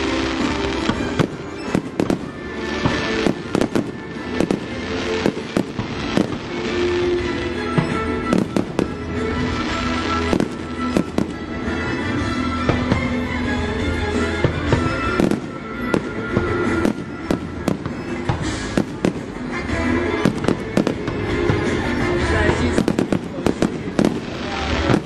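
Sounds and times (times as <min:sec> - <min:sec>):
fireworks bursting with sharp bangs: 0:00.0 - 0:25.0
music playing: 0:00.0 - 0:25.0.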